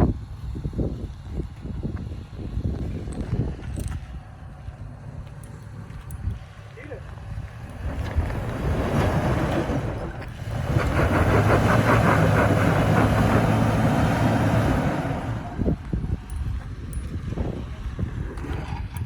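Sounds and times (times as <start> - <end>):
off-road vehicle engine under load: 0.0 - 19.0.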